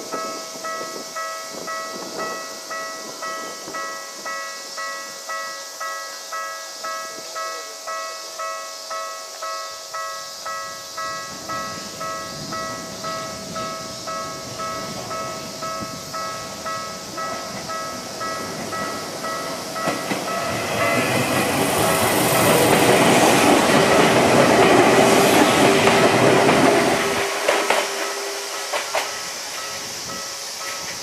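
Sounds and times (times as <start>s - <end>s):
level crossing warning bells: 0.0s - 31.0s
train wheel and rail noise: 0.0s - 31.0s.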